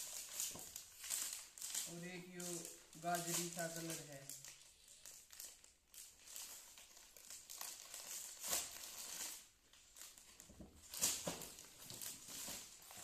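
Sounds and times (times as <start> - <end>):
plastic packets crinkling: 0.0 - 13.0.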